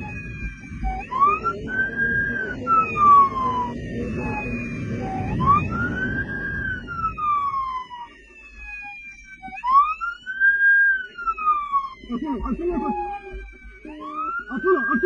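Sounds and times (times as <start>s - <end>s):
motorcycle siren wailing: 0.0s - 15.0s.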